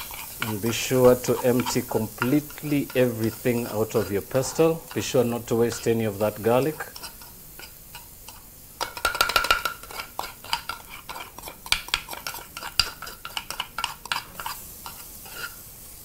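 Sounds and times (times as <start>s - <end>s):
metal spoon scraping in wooden mortar: 0.0s - 8.4s, 9.7s - 15.6s.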